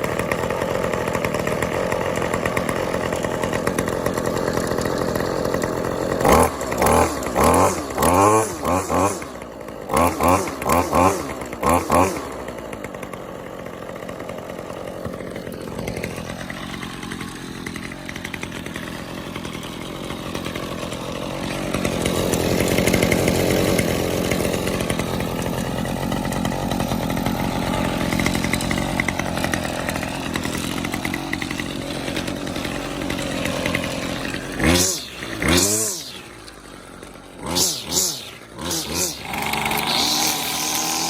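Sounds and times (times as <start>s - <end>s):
string trimmer engine running: 0.0s - 41.0s.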